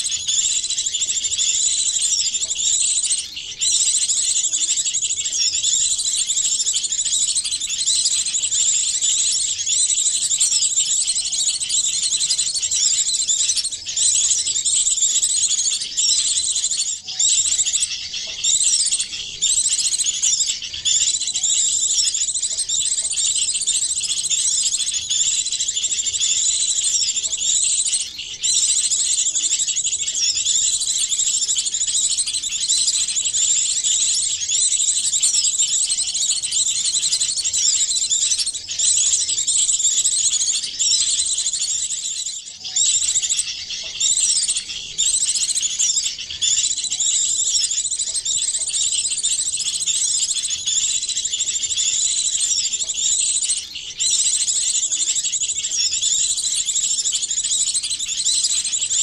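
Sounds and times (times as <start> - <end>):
small songbirds chirping and trilling: 0.0 - 59.0.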